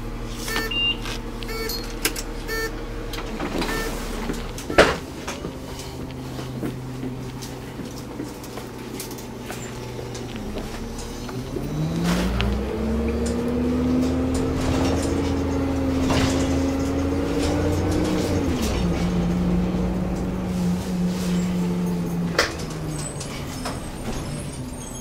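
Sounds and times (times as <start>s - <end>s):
bus engine accelerating: 0.0s - 25.0s.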